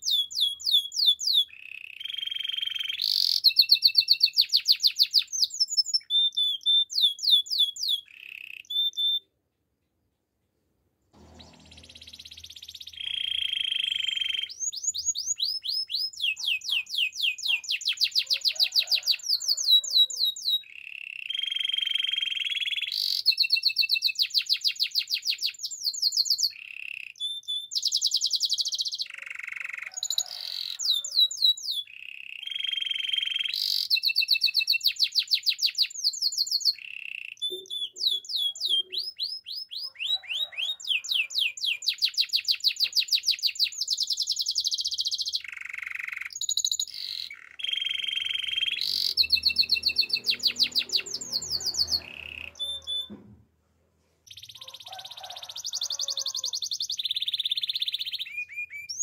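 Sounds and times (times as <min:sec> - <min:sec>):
canary singing trills: 0:00.0 - 0:09.3, 0:11.2 - 0:53.2, 0:54.3 - 0:59.0.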